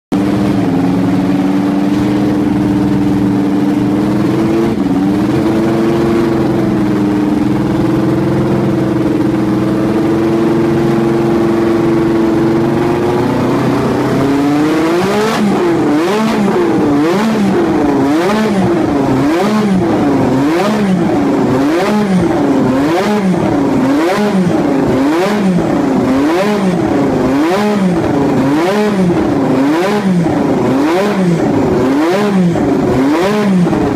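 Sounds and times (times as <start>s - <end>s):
race car engine idling and revving: 0.1s - 33.9s.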